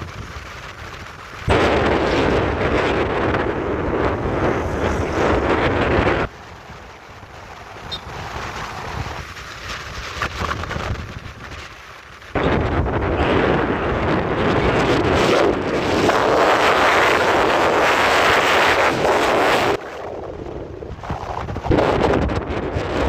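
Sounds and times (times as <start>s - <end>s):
vehicle driving rumble: 0.0s - 23.0s
wind buffeting microphone: 0.0s - 23.0s.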